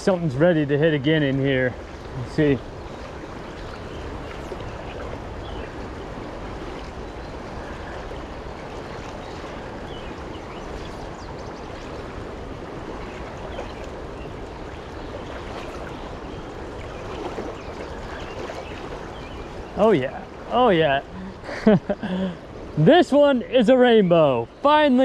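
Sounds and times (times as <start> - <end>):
river rushing and splashing: 0.0 - 25.0.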